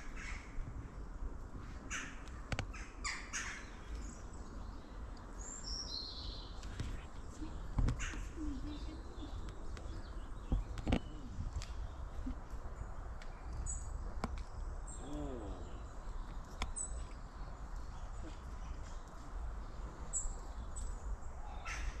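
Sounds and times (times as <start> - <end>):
faint bird chirps: 3.1 - 22.0.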